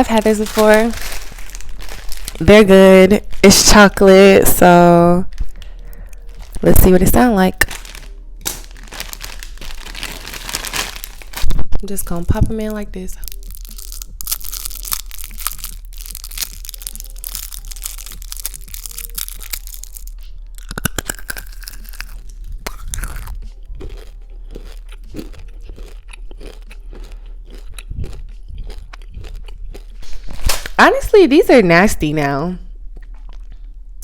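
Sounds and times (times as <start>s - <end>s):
crunching and chewing candy: 0.0s - 3.7s, 5.4s - 6.9s, 7.6s - 11.6s, 13.2s - 30.8s, 33.0s - 33.8s.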